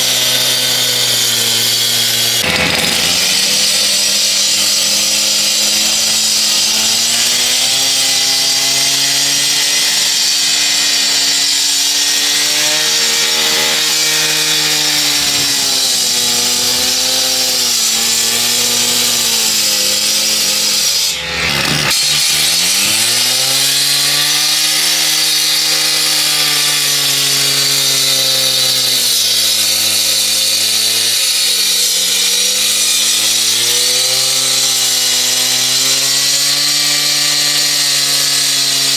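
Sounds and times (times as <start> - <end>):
blade grinding concrete: 0.0 - 38.9
power cutter engine: 0.0 - 38.9.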